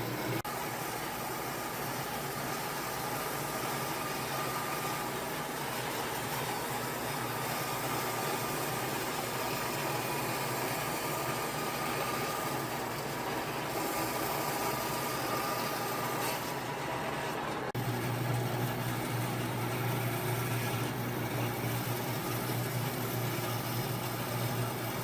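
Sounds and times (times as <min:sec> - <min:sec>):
machine noise with faint whine: 0:00.0 - 0:25.0.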